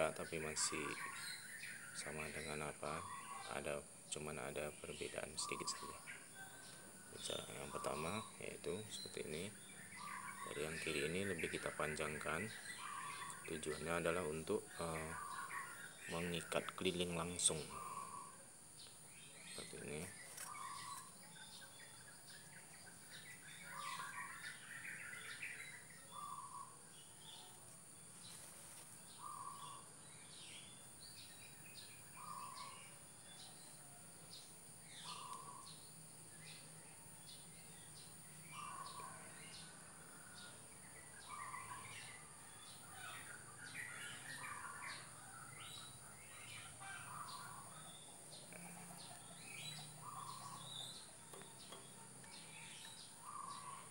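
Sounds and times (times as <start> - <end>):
high bird chirps: 0.0 - 53.9.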